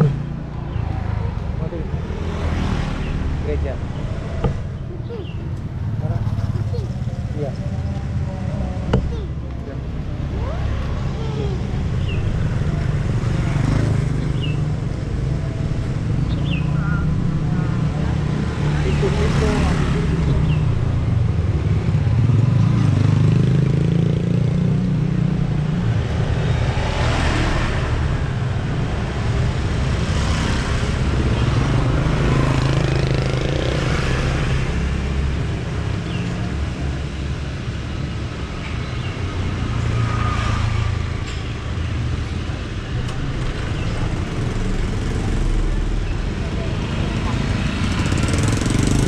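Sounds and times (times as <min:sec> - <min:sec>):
low traffic rumble: 0:00.0 - 0:49.0
vehicles passing: 0:00.0 - 0:49.0.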